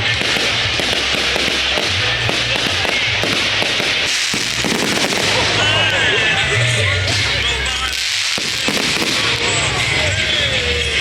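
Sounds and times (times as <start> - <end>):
fireworks crackling and popping: 0.0 - 11.0
music with low bass line: 0.0 - 11.0.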